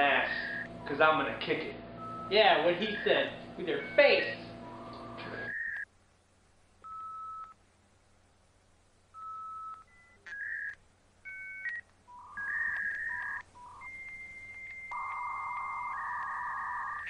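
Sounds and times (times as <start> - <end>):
long steady high tone: 0.0 - 5.8, 9.2 - 17.0
electronic beeps: 0.0 - 5.9, 9.2 - 17.0.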